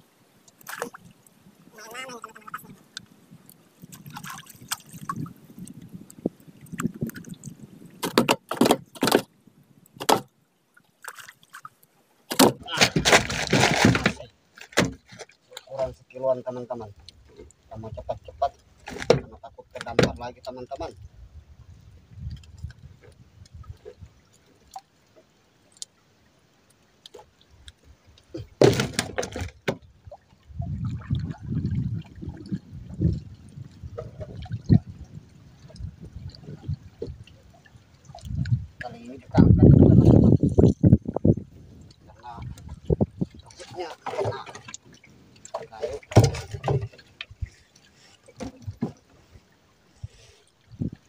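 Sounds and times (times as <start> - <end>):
water sloshing around boat: 0.4 - 21.0, 22.0 - 51.0.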